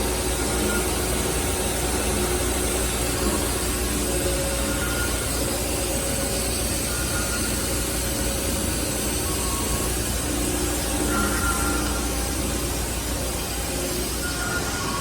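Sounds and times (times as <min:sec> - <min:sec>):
lathe hum and hiss: 0:00.0 - 0:15.0.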